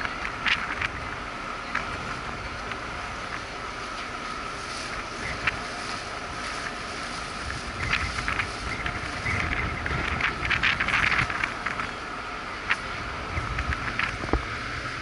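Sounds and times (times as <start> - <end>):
crackling clattering strokes: 0.0 - 14.6
machinery hum and rumble: 0.0 - 15.0
wind on microphone: 0.0 - 15.0.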